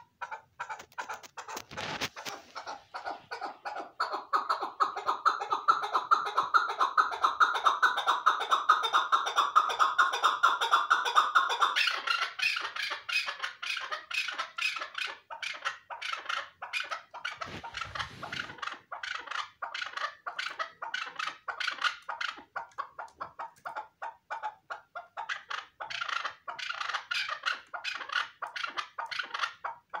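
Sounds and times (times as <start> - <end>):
partridge clucking calls: 0.0 - 30.0.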